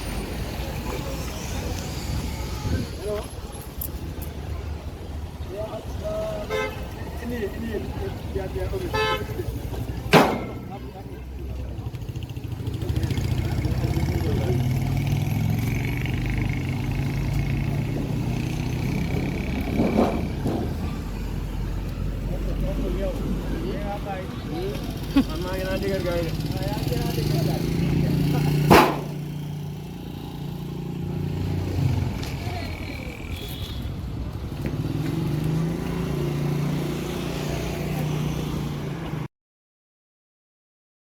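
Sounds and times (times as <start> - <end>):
vehicle engine humming: 0.0 - 39.2
street noise: 0.0 - 39.3.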